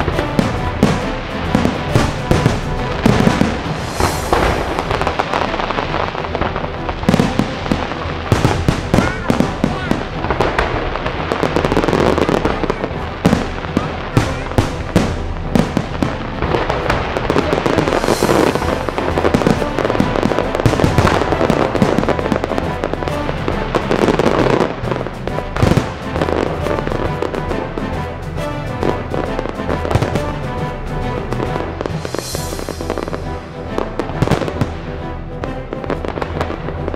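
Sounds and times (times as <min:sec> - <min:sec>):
fireworks bangs and crackles: 0:00.0 - 0:36.9
music: 0:00.0 - 0:36.9.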